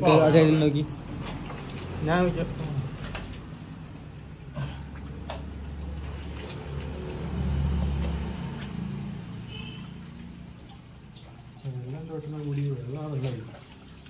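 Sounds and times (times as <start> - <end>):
water splashing and dripping: 0.0 - 14.0.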